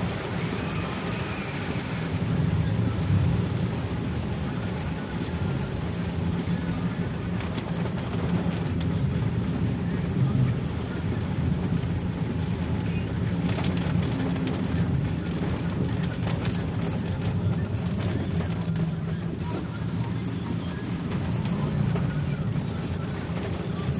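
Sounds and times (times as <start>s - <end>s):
road noise: 0.0s - 23.9s
vehicle engine running: 0.0s - 23.9s.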